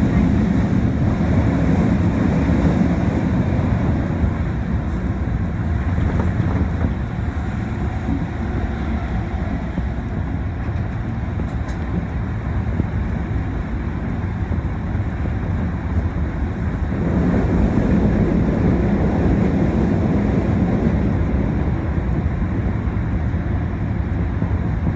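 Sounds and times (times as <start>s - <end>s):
subway train rumbling in tunnel: 0.0s - 24.9s.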